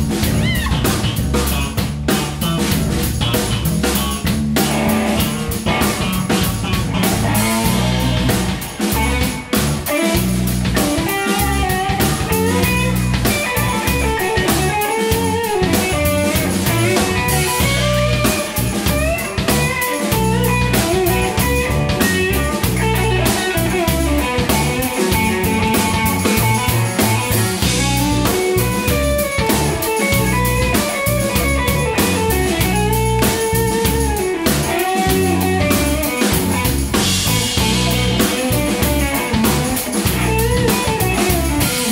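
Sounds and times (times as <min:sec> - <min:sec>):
drum kit beat: 0:00.0 - 0:41.9
electric guitar lead: 0:00.0 - 0:41.9.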